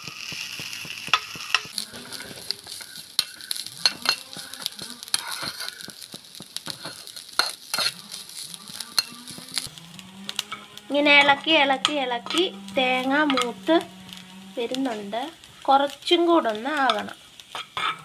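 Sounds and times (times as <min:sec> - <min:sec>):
spatula scraping a pan: 0:00.0 - 0:15.1, 0:16.8 - 0:18.0
soft hiss of roasting: 0:00.0 - 0:18.0.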